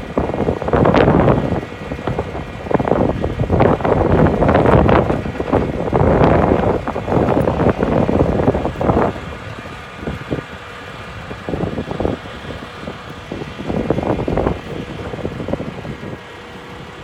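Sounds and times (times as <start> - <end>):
diesel engine running: 0.0 - 17.0
hydraulic pump whine: 0.0 - 17.0
wind buffeting microphone: 0.0 - 17.0.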